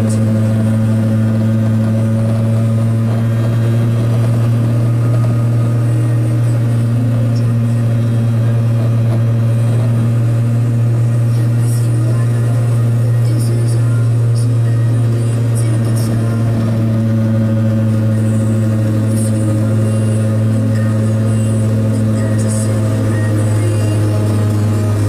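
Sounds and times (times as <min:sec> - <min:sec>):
small two-stroke engine running: 0:00.0 - 0:25.0.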